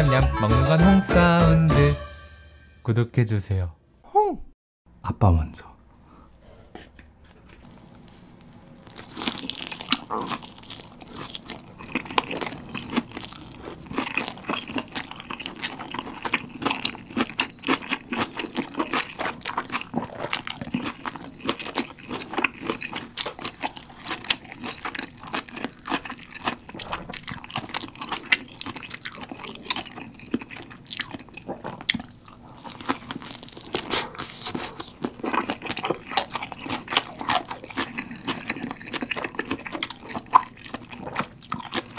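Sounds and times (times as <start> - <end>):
crunchy chewing: 7.6 - 41.9.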